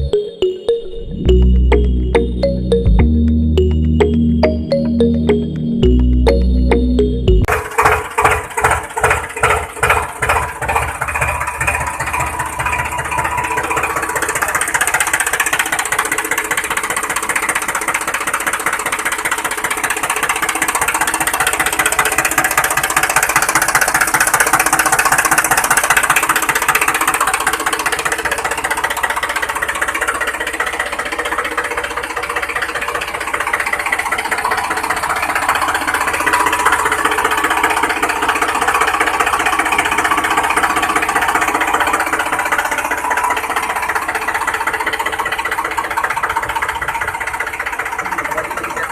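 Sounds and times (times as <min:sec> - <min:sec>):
tractor engine starting up: 0:01.2 - 0:48.9.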